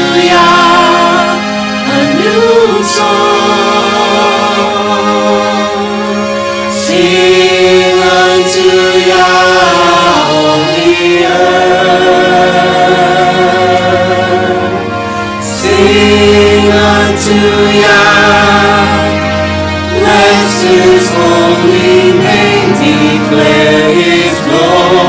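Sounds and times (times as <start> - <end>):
low musical accompaniment: 0.0 - 25.0
vocal group singing harmonies: 0.0 - 25.0.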